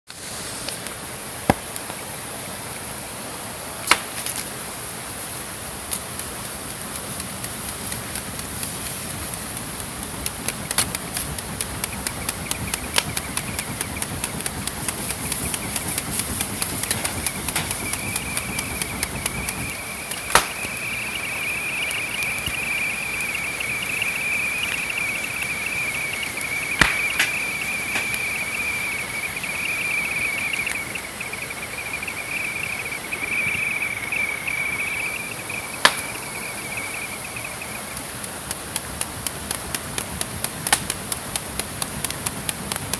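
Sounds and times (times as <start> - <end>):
campfire crackling and popping: 0.2 - 42.9
kettle whistling: 0.3 - 42.9.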